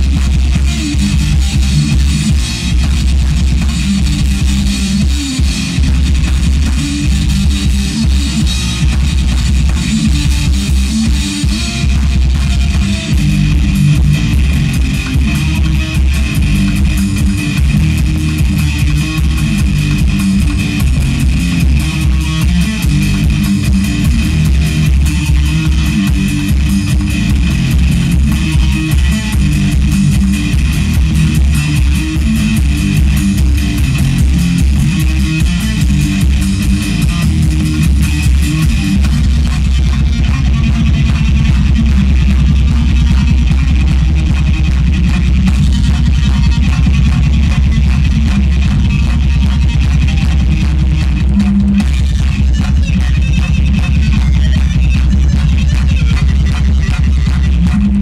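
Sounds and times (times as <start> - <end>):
drum kit: 0.0 - 58.0
electric guitars: 0.0 - 58.0
rock band playing: 0.0 - 58.0.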